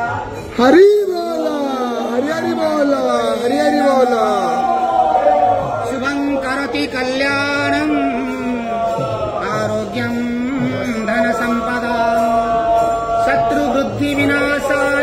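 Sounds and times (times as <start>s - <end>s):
man chanting a hymn: 0.6s - 4.9s, 5.6s - 15.0s.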